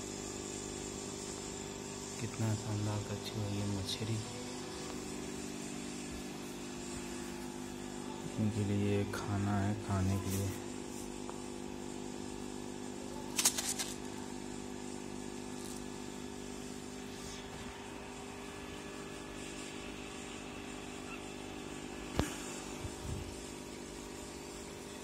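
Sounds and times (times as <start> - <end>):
aquarium equipment electrical hum: 0.0 - 25.0.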